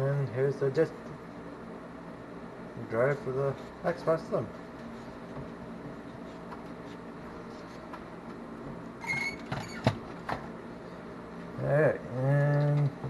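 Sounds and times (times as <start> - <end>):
low steady room hum: 0.0 - 13.0.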